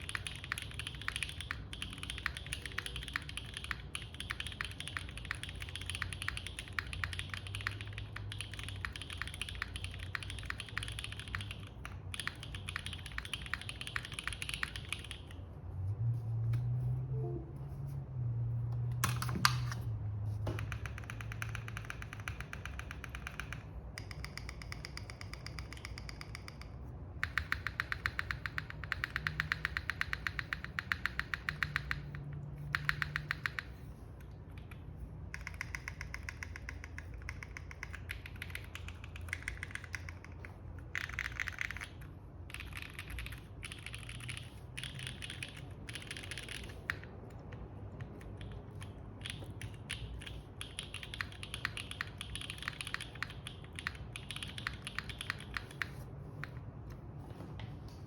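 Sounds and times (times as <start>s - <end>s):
typing on mechanical keyboard: 0.0s - 15.5s, 19.0s - 19.8s, 20.4s - 57.0s.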